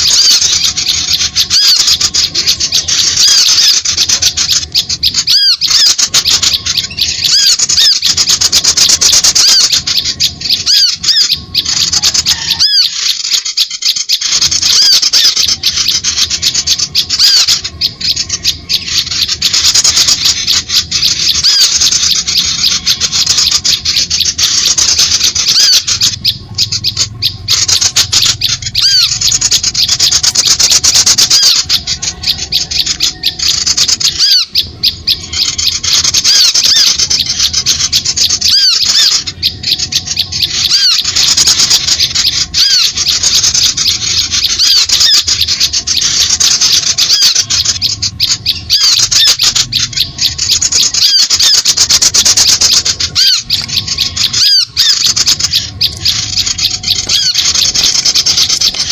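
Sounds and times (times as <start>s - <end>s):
many small birds chattering: 0.0s - 58.9s.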